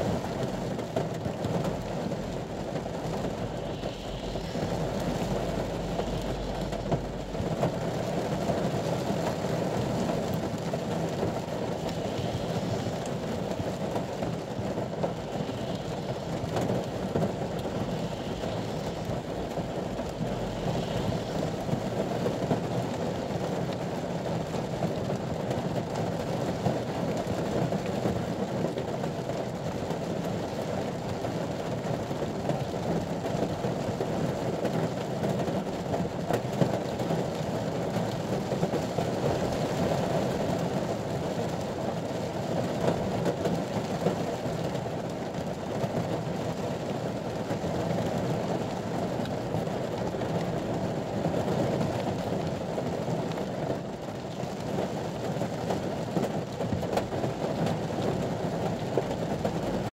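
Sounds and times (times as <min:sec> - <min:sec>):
rain on car roof from inside: 0:00.0 - 0:59.9.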